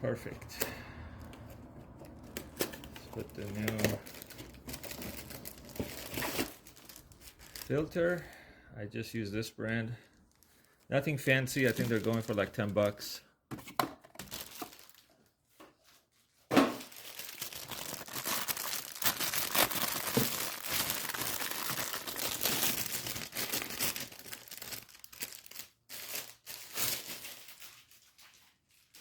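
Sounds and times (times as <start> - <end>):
plastic wrapping crinkling and tearing: 1.2 - 8.3, 9.6 - 13.1, 14.1 - 16.2, 16.8 - 29.0.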